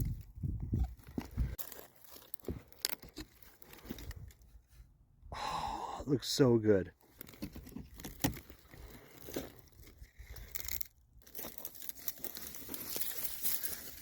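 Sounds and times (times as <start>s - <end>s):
dry debris crunching underfoot: 0.0s - 4.8s, 7.0s - 14.0s.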